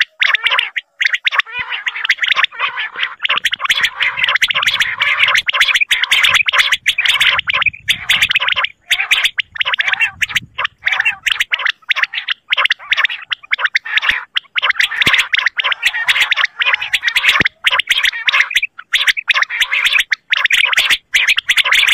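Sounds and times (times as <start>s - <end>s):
quail rattling trills: 0.0s - 21.9s.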